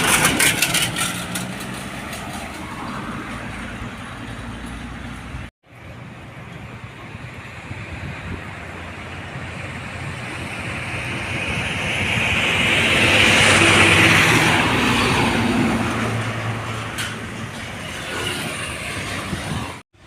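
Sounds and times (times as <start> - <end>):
truck passing: 0.0 - 20.0.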